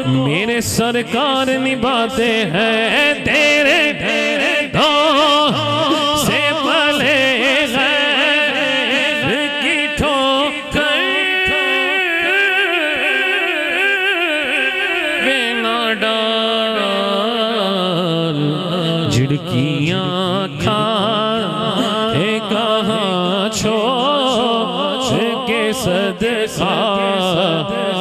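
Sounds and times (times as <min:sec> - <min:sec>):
man singing through a microphone: 0:00.0 - 0:28.0.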